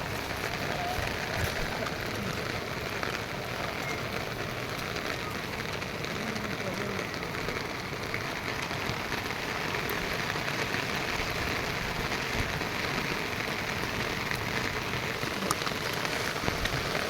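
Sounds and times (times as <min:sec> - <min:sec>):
single raindrops: 0:00.0 - 0:17.0
steady rain falling: 0:00.0 - 0:17.0.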